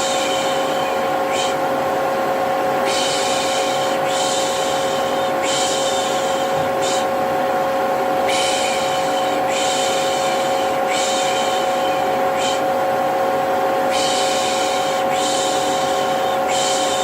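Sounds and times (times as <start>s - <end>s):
vacuum cleaner motor humming: 0.0s - 17.0s.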